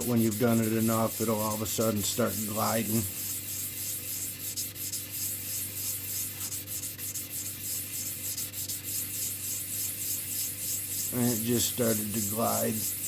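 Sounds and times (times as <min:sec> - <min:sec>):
stone scrubbing on wet sandpaper: 0:00.0 - 0:13.0.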